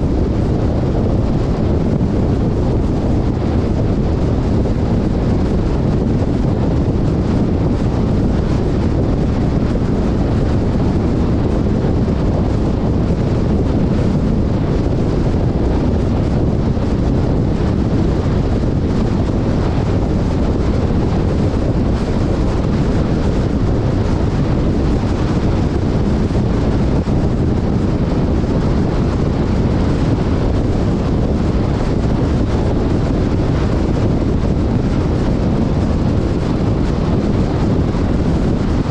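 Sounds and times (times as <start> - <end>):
vehicle engine running: 0.0 - 38.9
wind rumble on microphone: 0.0 - 38.9.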